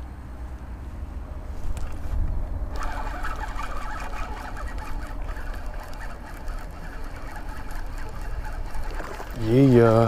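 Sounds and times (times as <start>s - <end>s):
wind rumble on microphone: 1.4s - 10.0s.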